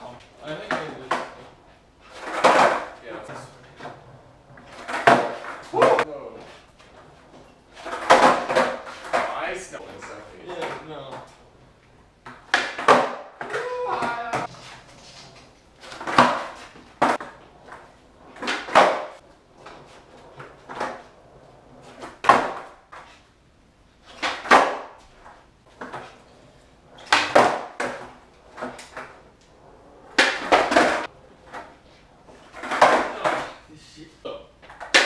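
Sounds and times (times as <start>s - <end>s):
skateboards clacking on concrete: 0.0s - 23.3s, 24.0s - 33.6s, 34.6s - 35.0s.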